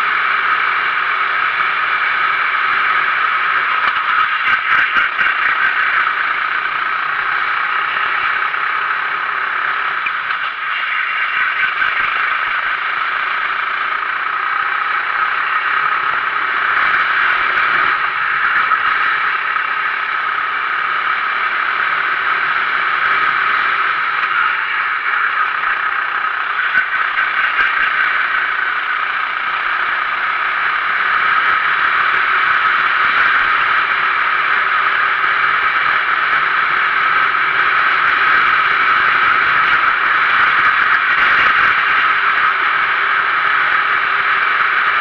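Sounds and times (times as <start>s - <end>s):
kart engine running: 0.0s - 45.0s.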